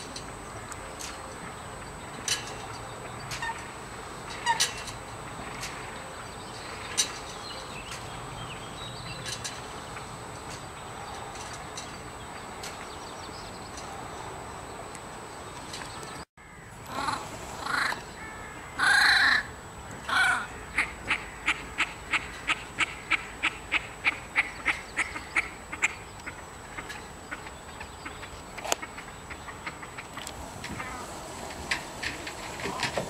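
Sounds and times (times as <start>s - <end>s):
bird calling: 0.0s - 33.0s.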